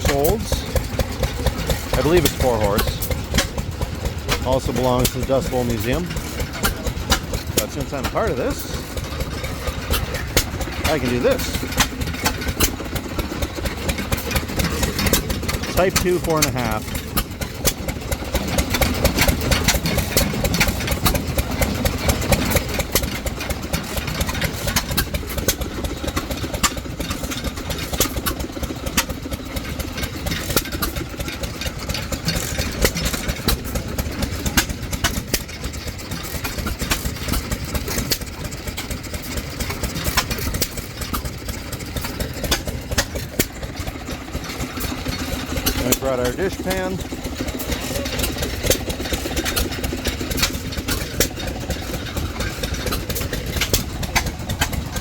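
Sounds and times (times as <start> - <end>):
exhaust pops: 0.0 - 55.0
gas engines chugging: 0.0 - 55.0.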